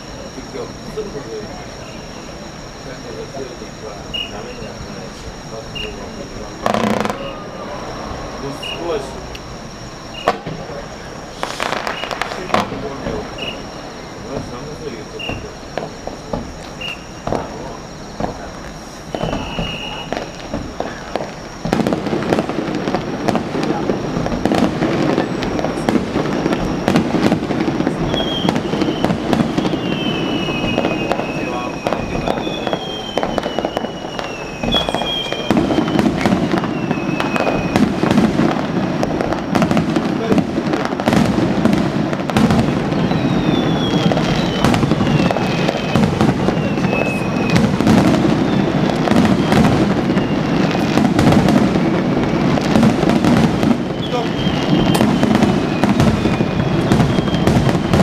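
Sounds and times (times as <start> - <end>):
fireworks bangs and crackles: 0.0 - 58.0
high firework whistle: 0.0 - 58.0.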